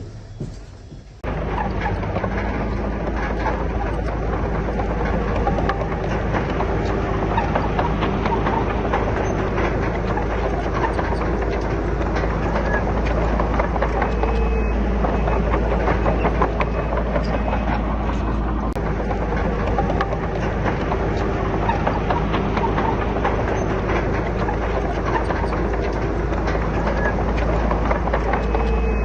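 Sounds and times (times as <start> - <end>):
bulldozer diesel engine humming: 0.0 - 29.0
metal tracks clattering on rock: 0.0 - 29.0.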